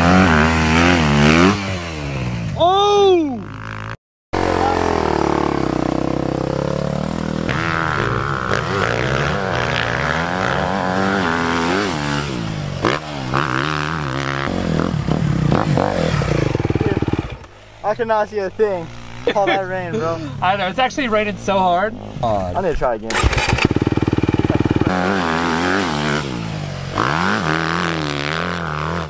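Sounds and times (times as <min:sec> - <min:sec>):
dirt bike engine revving: 0:00.0 - 0:02.6, 0:03.3 - 0:29.0.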